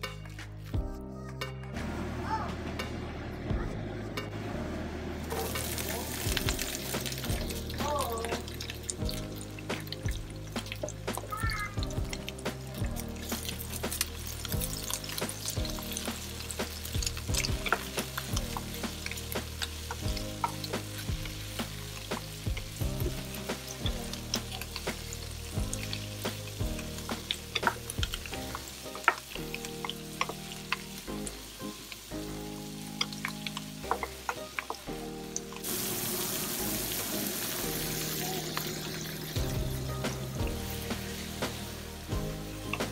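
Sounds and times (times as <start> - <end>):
background music: 0.0 - 42.9
cabbage sizzling in oil: 5.2 - 42.9.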